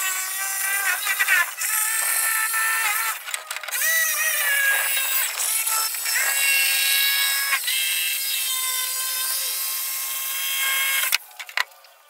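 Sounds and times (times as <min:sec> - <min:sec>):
jigsaw cutting plywood: 0:00.0 - 0:11.6.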